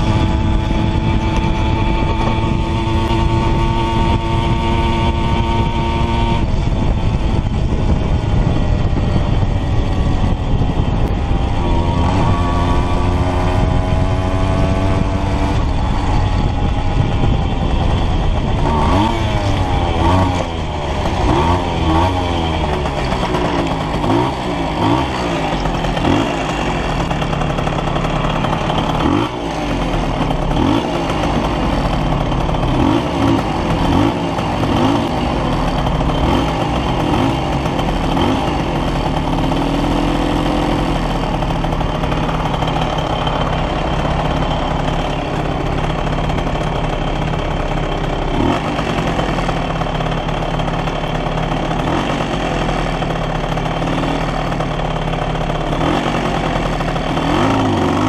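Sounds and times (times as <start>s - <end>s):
moped engine revving and idling: 0.0s - 58.0s.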